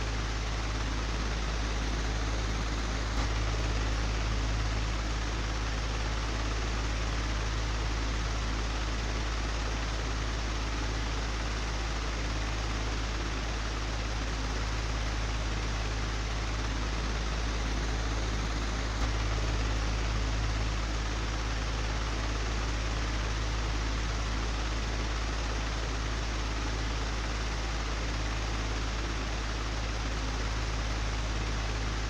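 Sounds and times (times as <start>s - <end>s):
electric fan running: 0.0s - 32.0s.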